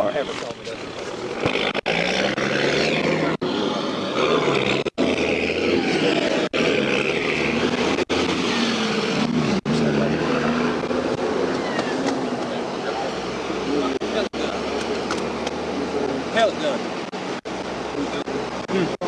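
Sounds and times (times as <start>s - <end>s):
vehicle engines humming: 0.0s - 19.0s.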